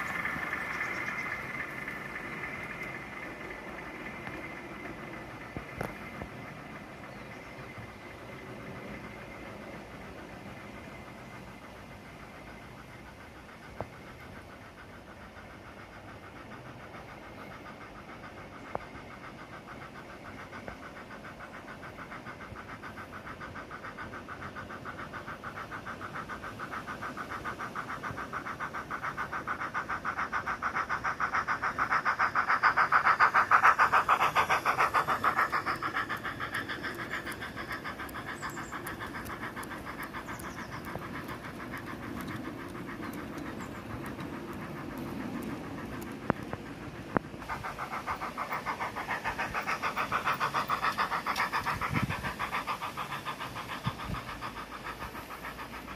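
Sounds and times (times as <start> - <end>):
model steam train running past: 0.0 - 55.9.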